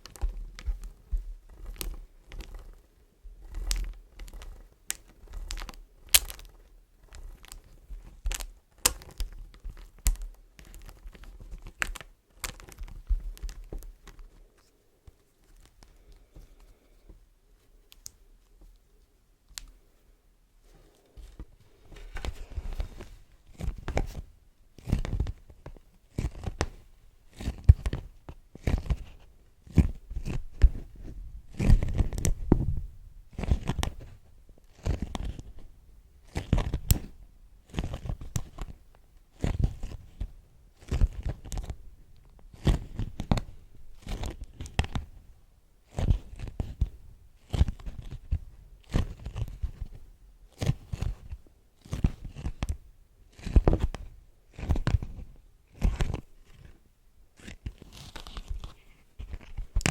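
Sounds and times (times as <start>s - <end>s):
wax wraps crinkling: 0.0s - 19.9s, 20.8s - 45.2s, 45.8s - 59.9s.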